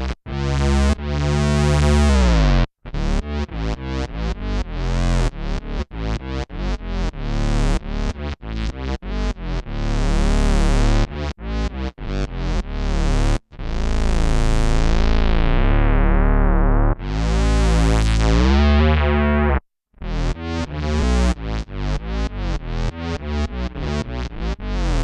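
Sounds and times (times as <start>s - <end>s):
synth bass notes: 0.0s - 25.0s.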